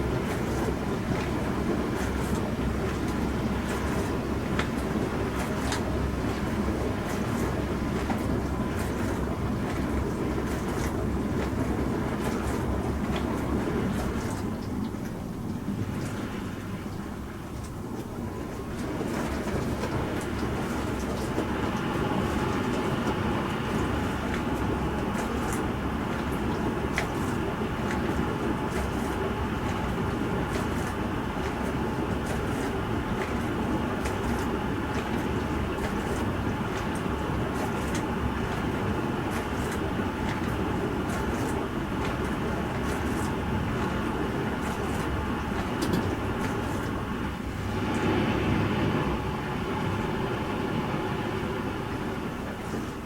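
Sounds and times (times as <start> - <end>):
dishwasher pump rumble: 0.0 - 53.0
water spraying and sloshing: 0.0 - 53.0.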